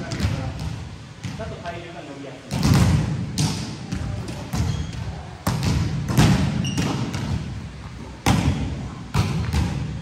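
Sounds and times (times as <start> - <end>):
volleyballs bouncing on gym floor: 0.0 - 10.0.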